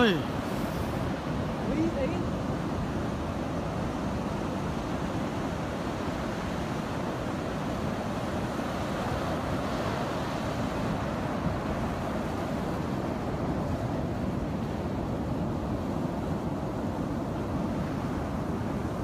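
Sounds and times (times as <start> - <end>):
surf breaking on sandy beach: 0.0 - 19.0.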